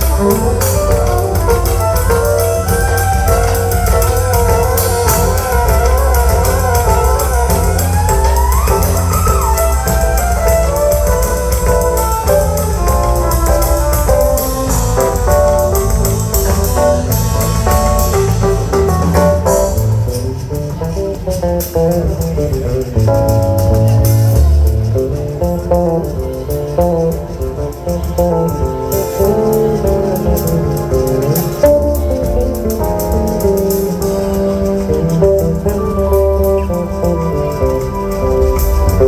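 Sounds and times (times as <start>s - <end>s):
live band playing instrumental: 0.0s - 39.0s.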